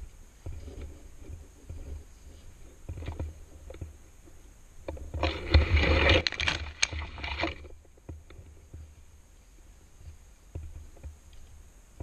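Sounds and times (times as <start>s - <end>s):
leaves and branches rustling: 0.0s - 12.0s.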